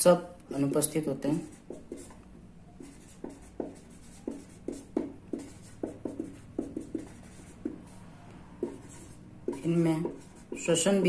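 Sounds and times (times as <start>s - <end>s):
marker pen writing on paper: 1.2s - 11.0s.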